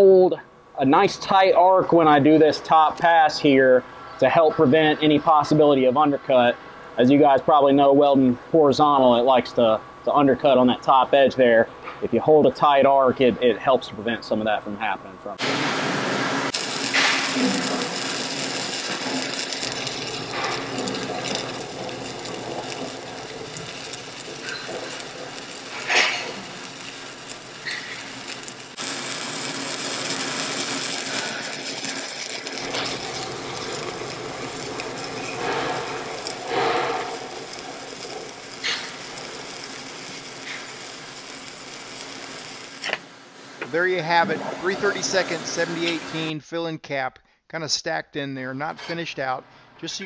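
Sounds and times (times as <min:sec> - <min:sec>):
welding arc crackling and sizzling: 0:00.8 - 0:46.3.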